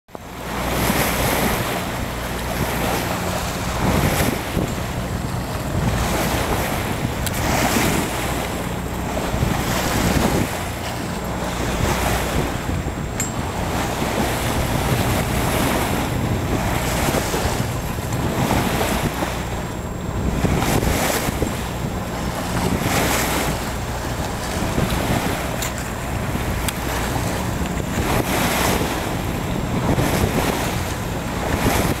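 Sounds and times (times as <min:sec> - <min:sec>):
waves washing along hull: 0:00.1 - 0:32.0
wind buffeting microphone: 0:00.2 - 0:32.0.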